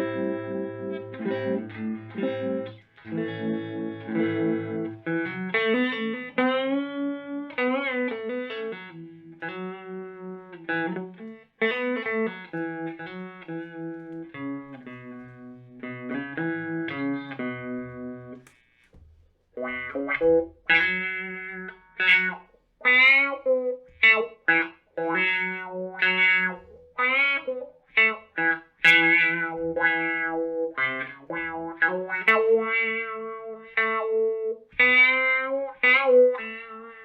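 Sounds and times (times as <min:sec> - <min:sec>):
electric guitar with vibrato effect: 0:00.0 - 0:37.0.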